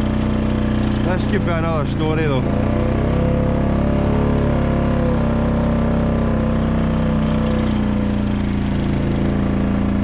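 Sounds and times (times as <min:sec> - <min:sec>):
quad bike engine running: 0:00.0 - 0:10.0.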